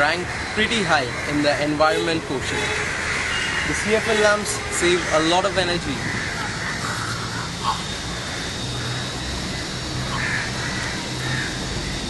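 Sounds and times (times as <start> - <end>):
low city hum: 0.0 - 12.0.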